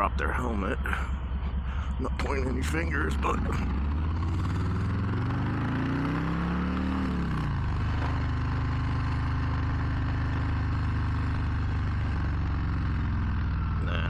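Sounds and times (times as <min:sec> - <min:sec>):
motorcycle engine idling: 0:00.0 - 0:05.7, 0:07.1 - 0:14.0.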